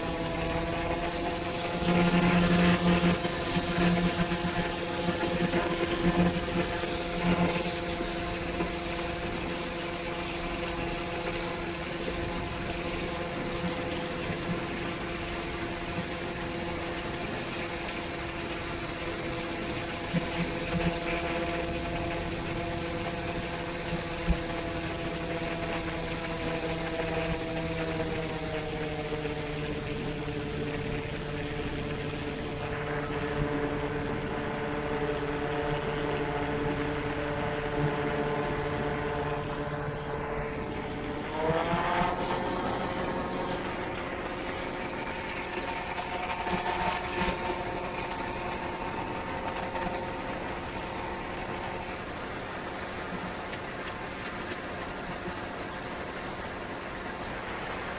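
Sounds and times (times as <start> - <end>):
paramotor engine drone: 0.0 - 57.9.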